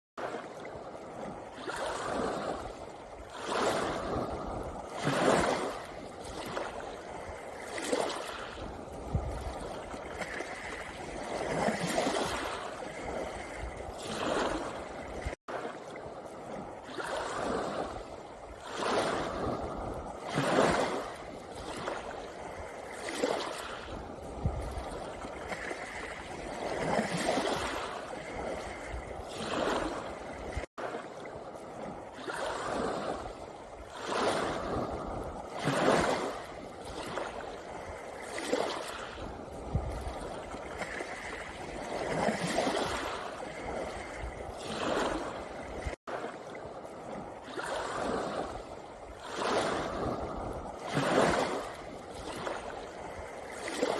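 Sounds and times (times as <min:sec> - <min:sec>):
waves washing over pebble beach: 0:01.1 - 0:53.9.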